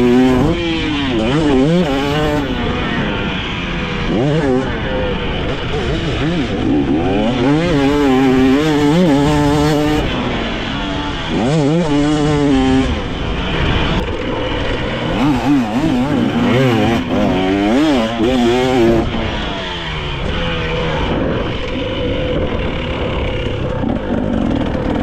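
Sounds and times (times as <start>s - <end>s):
dirt bike engine revving: 0.0s - 25.0s
wind noise: 4.0s - 25.0s.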